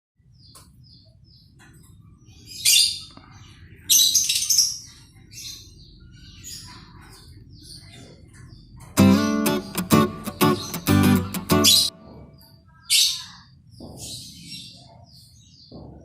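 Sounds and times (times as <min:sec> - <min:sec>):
bird chirping: 0:00.2 - 0:16.0
harsh bird calls: 0:00.2 - 0:16.0.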